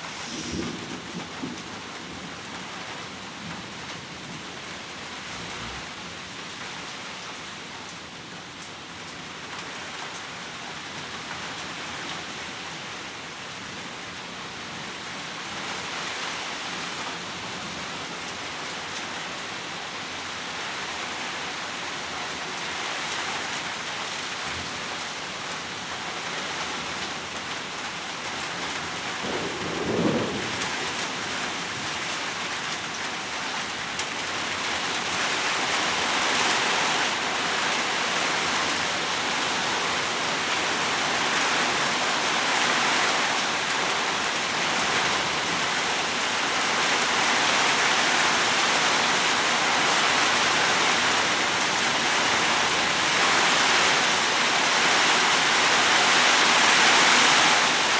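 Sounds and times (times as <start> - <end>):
heavy rain pouring: 0.0 - 57.9.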